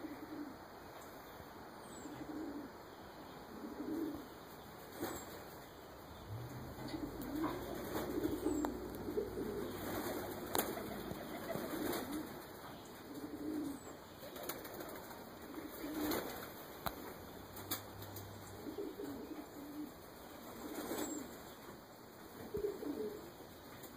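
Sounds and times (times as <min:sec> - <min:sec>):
pigeons cooing: 0:00.0 - 0:00.8, 0:02.0 - 0:23.9.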